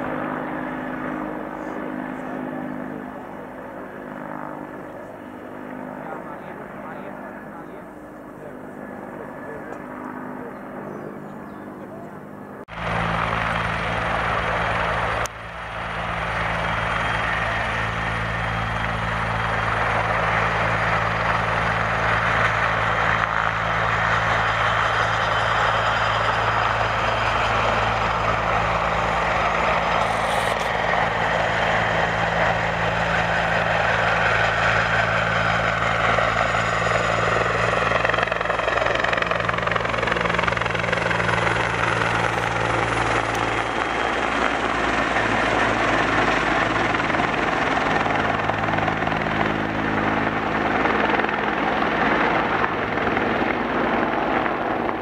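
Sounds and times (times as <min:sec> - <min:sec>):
helicopter rotor drone: 0:00.0 - 0:55.0
helicopter turbine hiss: 0:00.0 - 0:55.0.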